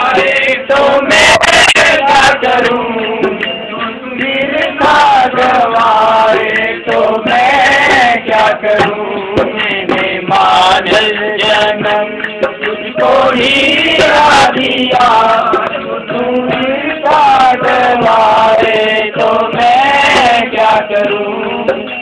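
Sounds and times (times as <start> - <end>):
hand drum strokes: 0.0 - 22.0
men singing together: 0.0 - 22.0.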